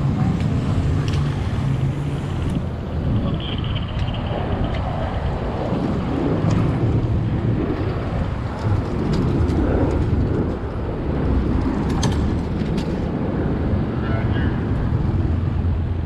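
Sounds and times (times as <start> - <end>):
road traffic rumble: 0.0 - 16.0
wind buffeting microphone: 0.0 - 16.0.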